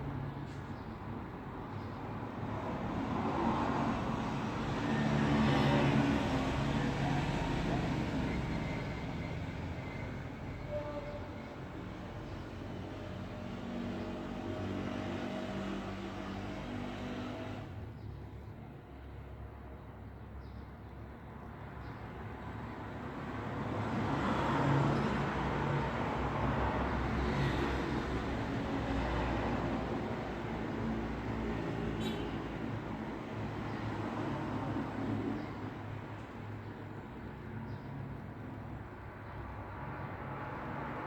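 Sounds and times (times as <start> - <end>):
road traffic passing: 0.0 - 19.7, 21.5 - 41.0.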